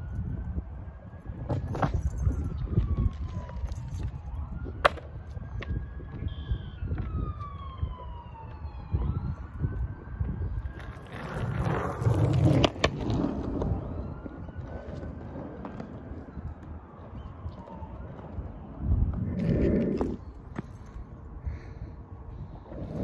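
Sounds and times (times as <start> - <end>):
skateboard wheels rolling on concrete: 0.0 - 23.0.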